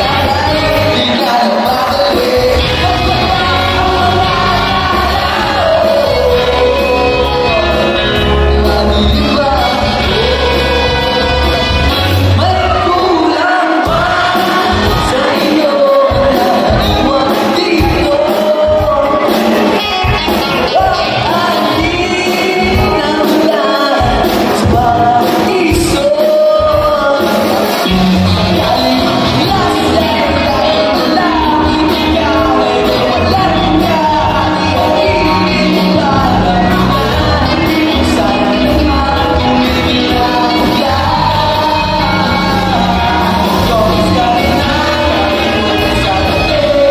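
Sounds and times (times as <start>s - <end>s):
lead vocals singing: 0.0s - 46.9s
live pop-rock band: 0.0s - 46.9s.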